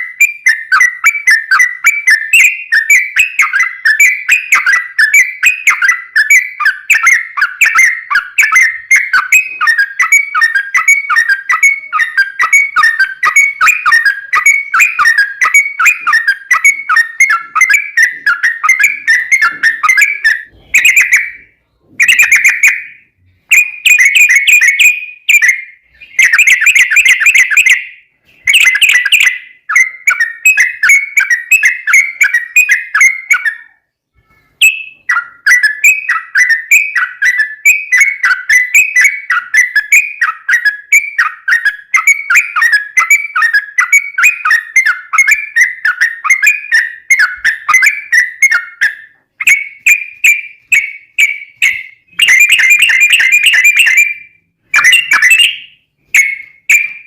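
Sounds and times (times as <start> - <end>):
bulbul singing bubbling whistles: 0.0 - 27.9, 34.6 - 57.0.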